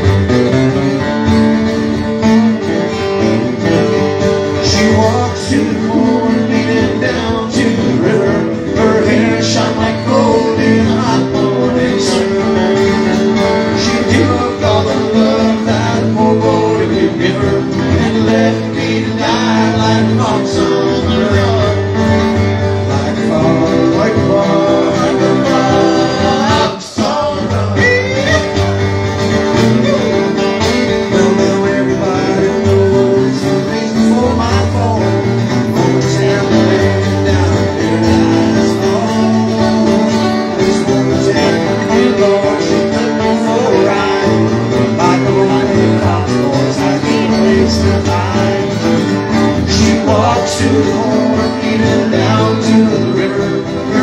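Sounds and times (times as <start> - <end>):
acoustic guitars strummed: 0.0 - 54.0
men singing: 2.6 - 54.0.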